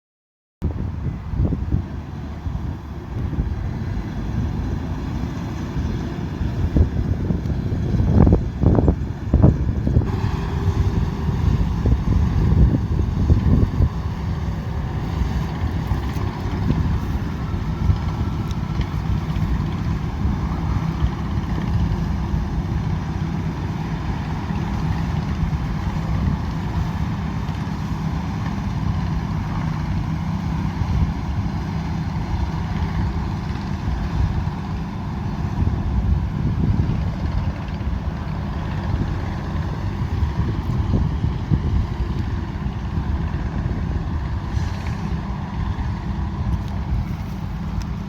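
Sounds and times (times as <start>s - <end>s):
combine harvester droning: 0.6s - 48.0s.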